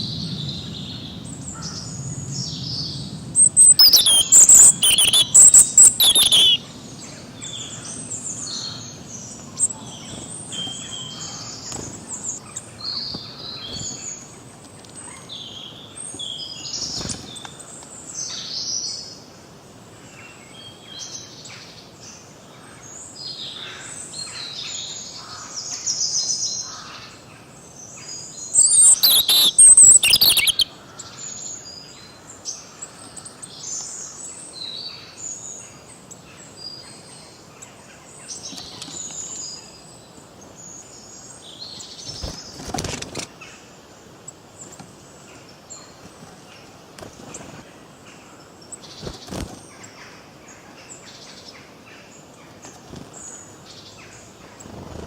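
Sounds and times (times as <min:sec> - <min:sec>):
small birds chirping and singing: 0:00.0 - 0:19.3, 0:20.0 - 0:55.0.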